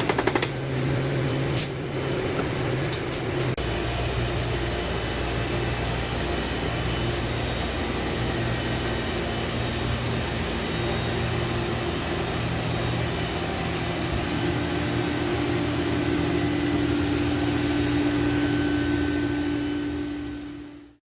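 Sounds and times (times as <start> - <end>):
machine hum with held tones: 0.0 - 21.0.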